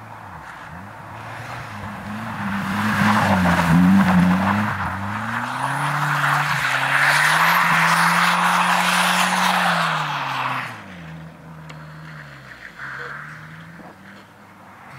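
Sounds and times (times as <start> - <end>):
rally car engine at full throttle: 0.0 - 14.9.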